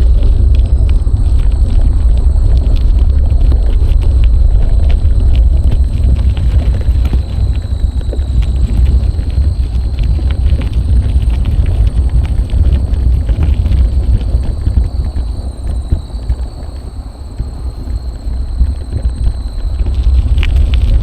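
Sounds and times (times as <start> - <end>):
faint high whine: 0.0 - 21.0
wind buffeting microphone: 0.0 - 21.0.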